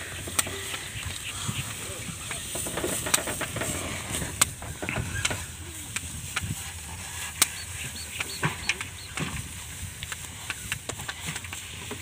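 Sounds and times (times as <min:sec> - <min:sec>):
carts rattling and knocking: 0:00.0 - 0:12.0
steady low rumble: 0:00.0 - 0:12.0.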